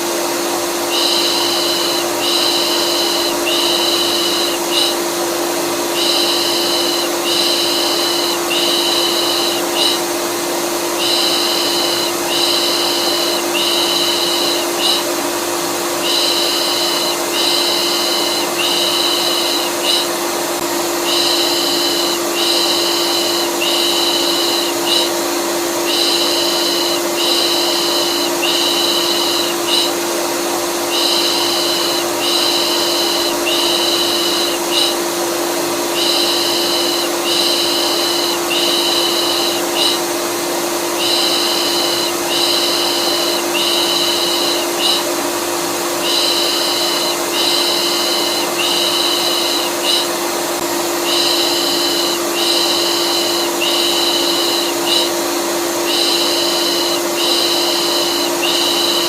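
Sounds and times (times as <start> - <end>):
vacuum cleaner humming: 0.0 - 59.0.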